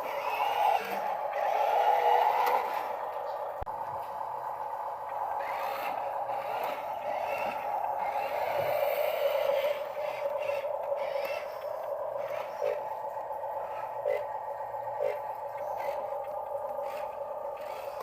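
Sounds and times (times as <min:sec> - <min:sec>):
toy truck motor whirring: 0:00.0 - 0:03.2, 0:05.2 - 0:18.0.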